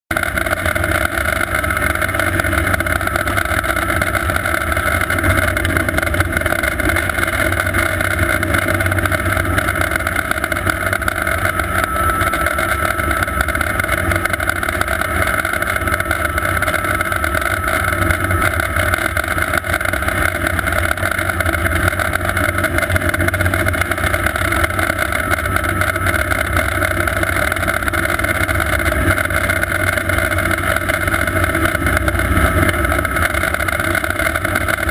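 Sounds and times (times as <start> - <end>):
helicopter rotor and engine rumble: 0.1 - 34.9
turbine whine: 0.1 - 34.9.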